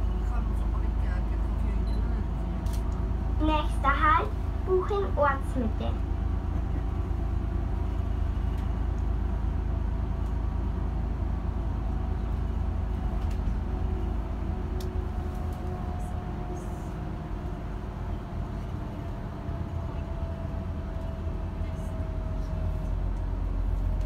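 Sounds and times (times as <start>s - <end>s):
bus engine drone: 0.0s - 24.0s
road rumble: 0.0s - 24.0s.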